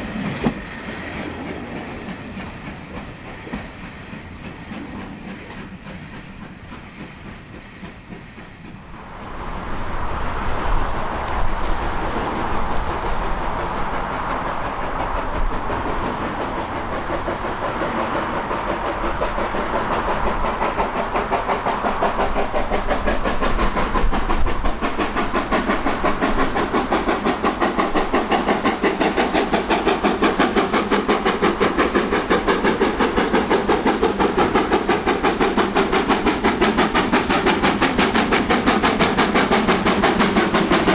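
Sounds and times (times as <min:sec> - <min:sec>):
train passing: 0:00.0 - 0:40.9
rhythmic train wheel beat: 0:00.2 - 0:40.9.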